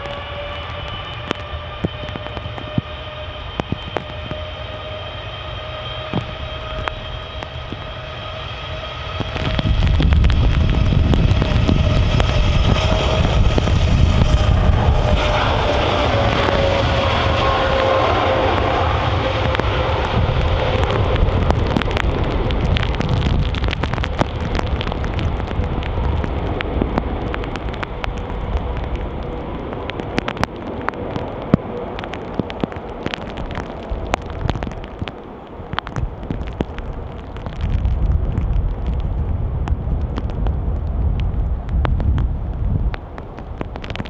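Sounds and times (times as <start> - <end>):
jet engine roar with whine: 0.0 - 44.0.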